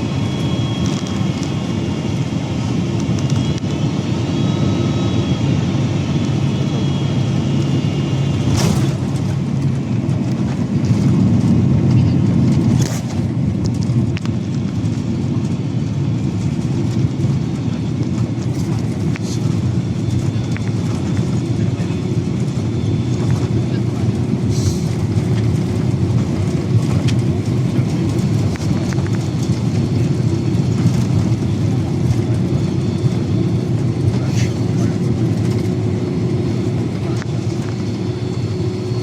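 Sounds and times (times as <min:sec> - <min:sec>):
aircraft cabin engine rumble: 0:00.0 - 0:39.0.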